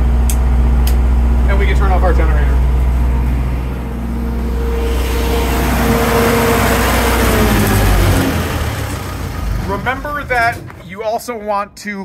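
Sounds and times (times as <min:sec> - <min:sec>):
generator engine running: 0:00.0 - 0:10.8.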